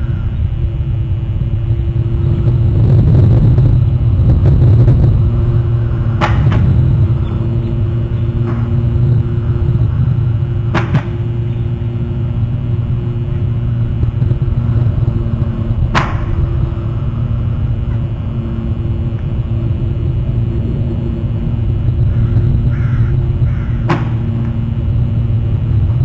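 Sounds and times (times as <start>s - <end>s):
faint hum: 0.0s - 26.0s
steady low rumble: 0.0s - 26.0s.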